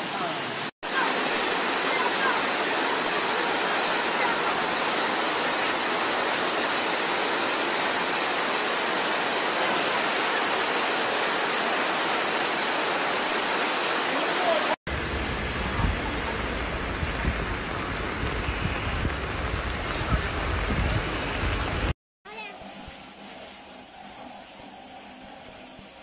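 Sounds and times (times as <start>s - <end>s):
heavy rain pouring: 0.0s - 22.5s
flowing floodwater: 0.0s - 26.0s.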